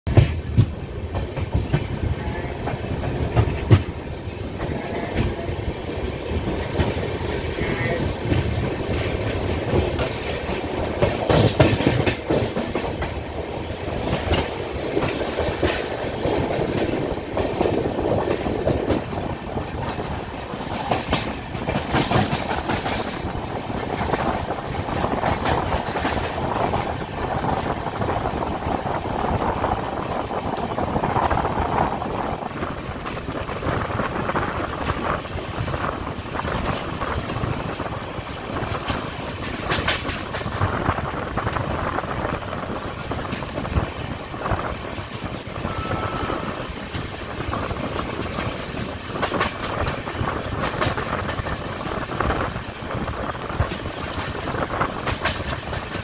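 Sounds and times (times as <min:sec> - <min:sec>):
train wheels rumbling on rails: 0:00.0 - 0:56.0
train wheels clicking and clanking: 0:00.1 - 0:56.0.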